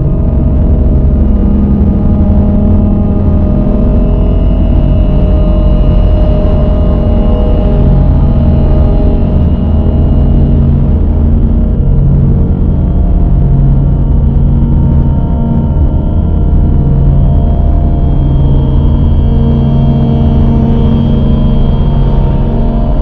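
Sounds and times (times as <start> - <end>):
dark ambient drone music: 0.0 - 23.0.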